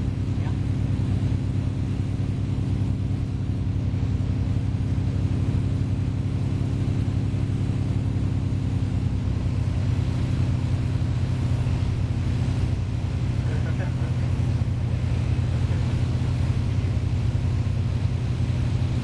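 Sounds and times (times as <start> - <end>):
aircraft engines droning: 0.0 - 19.0
low pulsing hum: 0.0 - 19.0.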